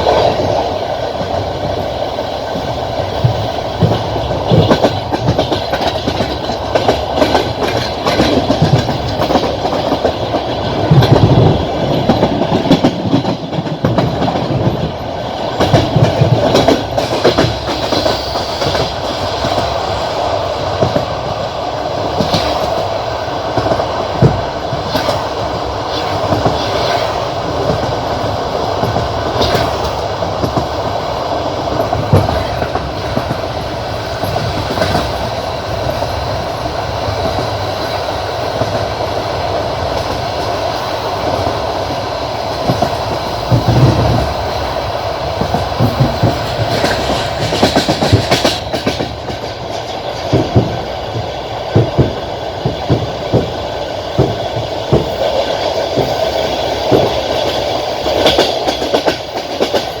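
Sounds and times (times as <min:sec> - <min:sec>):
train wheels clattering over rail joints: 0:00.0 - 1:00.0.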